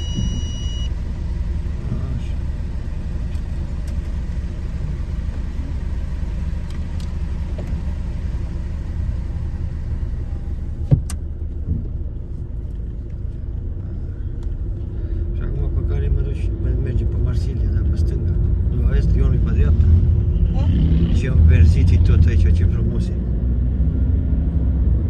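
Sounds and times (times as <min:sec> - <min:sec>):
car engine running: 0:00.0 - 0:23.4.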